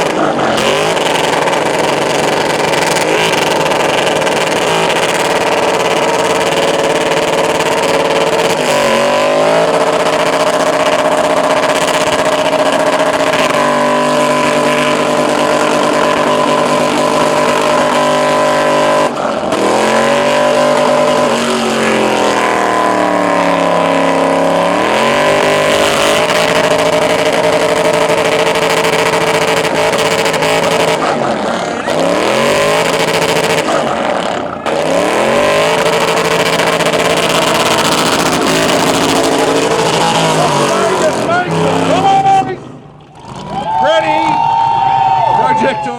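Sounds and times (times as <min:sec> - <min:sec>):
engine revving high: 0:00.0 - 0:45.4.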